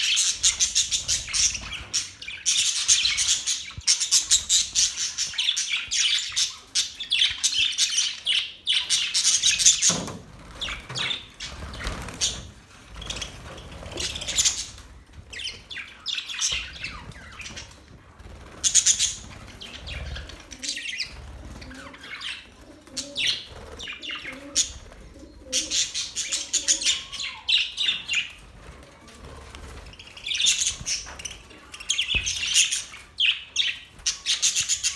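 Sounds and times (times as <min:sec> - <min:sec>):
budgerigars chirping and warbling: 0:00.0 - 0:28.4, 0:29.6 - 0:34.9.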